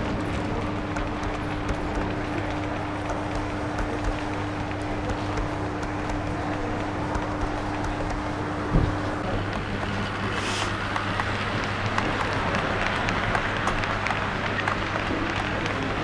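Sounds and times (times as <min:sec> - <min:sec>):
model train humming: 0:00.0 - 0:16.0.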